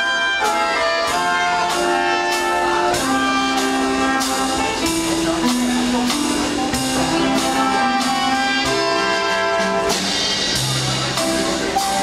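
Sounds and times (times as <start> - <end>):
big band dance music: 0.0 - 12.0
brass holding long chords: 0.0 - 12.0.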